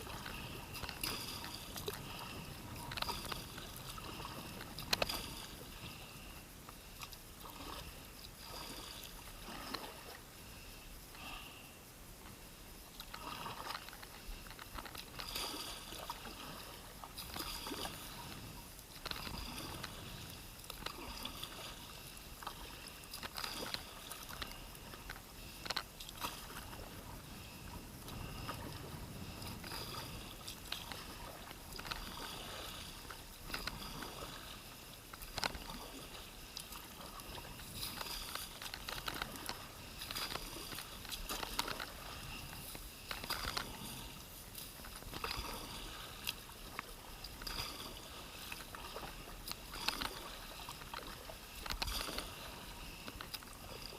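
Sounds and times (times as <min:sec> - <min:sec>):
paddle splashing in water: 0:00.0 - 0:11.4, 0:12.9 - 0:53.9.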